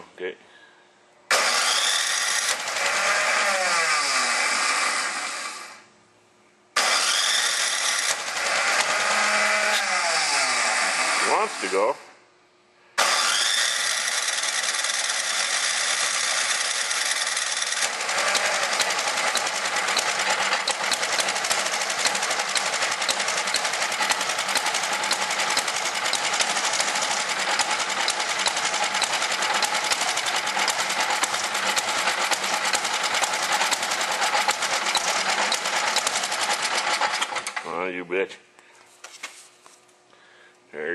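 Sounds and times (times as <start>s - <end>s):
small engine running: 1.3s - 5.9s, 6.8s - 12.0s, 13.0s - 37.7s.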